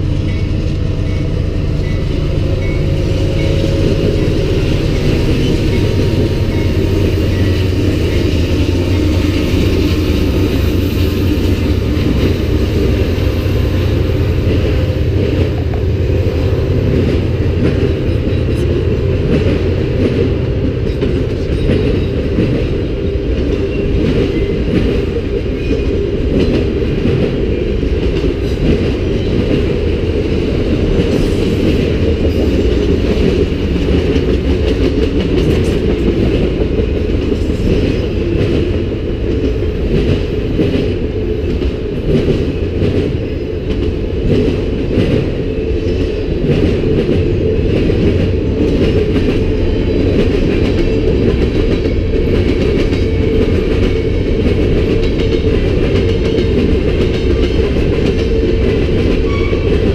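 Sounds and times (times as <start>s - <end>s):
freight train cars rolling past: 0.0s - 59.9s.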